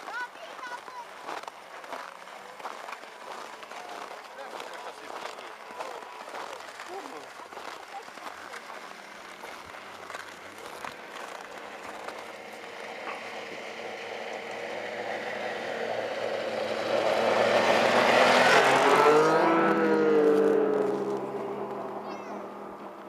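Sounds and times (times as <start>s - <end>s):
snowmobile passing by: 0.0s - 23.0s.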